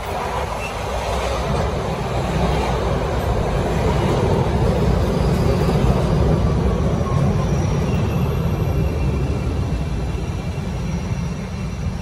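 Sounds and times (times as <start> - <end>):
train hum: 0.0 - 12.0
train wheels rumbling on rails: 0.0 - 12.0.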